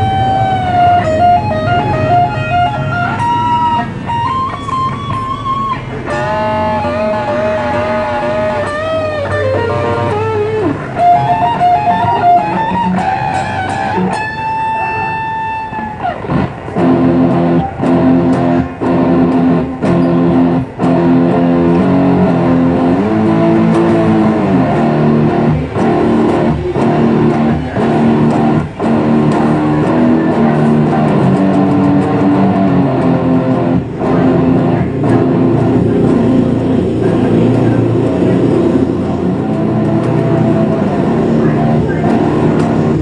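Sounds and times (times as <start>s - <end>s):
guitar notes and chords: 0.0s - 43.0s
regular beat: 0.0s - 43.0s.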